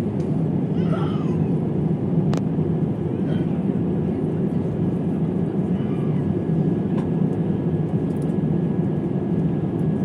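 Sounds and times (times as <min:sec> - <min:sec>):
airliner cabin engine and airflow noise: 0:00.0 - 0:10.0.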